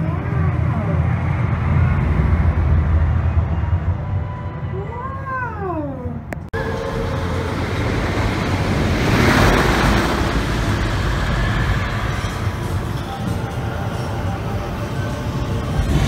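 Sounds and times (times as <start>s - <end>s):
roller coaster rushing past: 0.0s - 4.9s, 6.6s - 16.0s.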